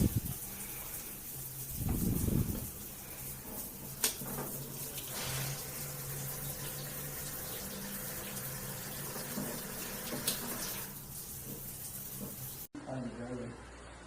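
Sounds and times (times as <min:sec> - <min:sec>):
water running: 0:00.0 - 0:12.7.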